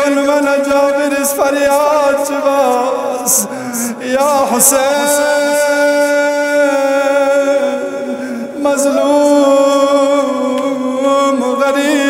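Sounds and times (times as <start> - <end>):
man chanting a lament: 0.0 - 12.0.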